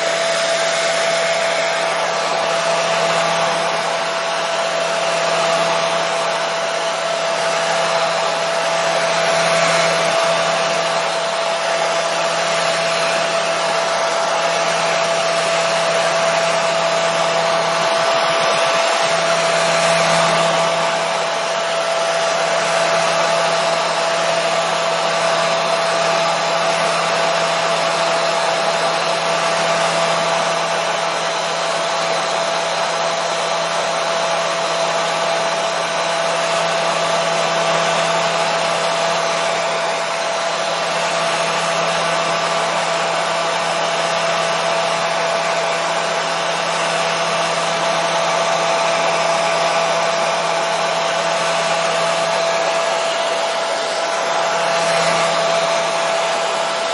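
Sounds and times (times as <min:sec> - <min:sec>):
hair dryer blowing air: 0:00.0 - 0:56.9.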